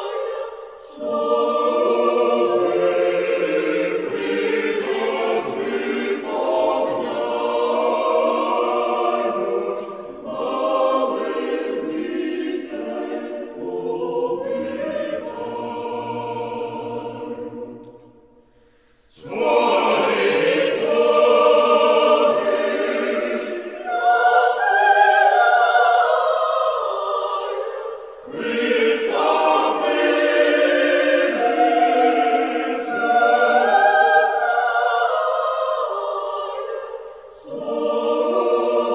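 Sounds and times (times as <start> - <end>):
choir singing held chords: 0.0 - 38.9.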